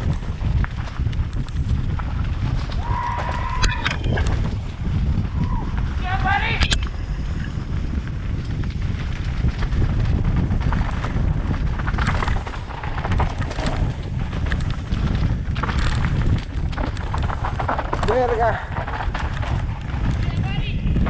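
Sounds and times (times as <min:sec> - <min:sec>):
bike clattering over bumps: 0:00.0 - 0:21.0
tyres on dirt: 0:00.0 - 0:21.0
wind buffeting microphone: 0:00.0 - 0:21.0.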